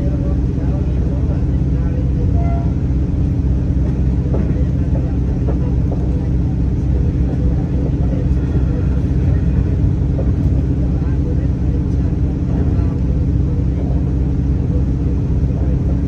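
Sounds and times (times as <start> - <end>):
train engine rumbling: 0.0 - 16.0
train wheels on track: 0.0 - 16.0.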